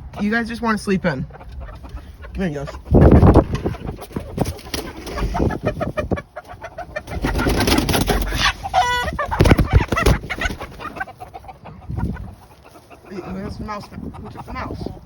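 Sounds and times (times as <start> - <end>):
chickens clucking and squawking: 0.0 - 15.0
drawn-out chicken call: 1.2 - 15.0.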